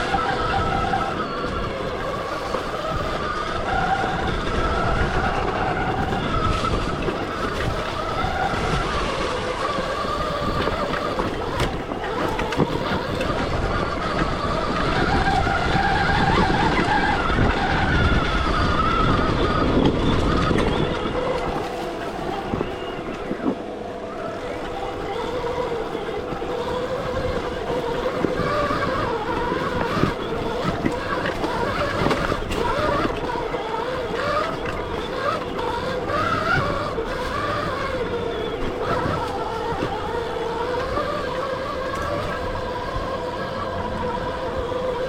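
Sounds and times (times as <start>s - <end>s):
electric motor whine: 0.0s - 45.0s.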